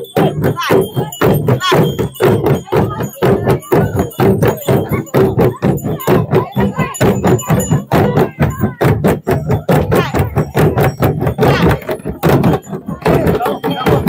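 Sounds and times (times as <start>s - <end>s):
drums beaten with sticks: 0.0s - 14.0s
voices calling: 0.0s - 14.0s.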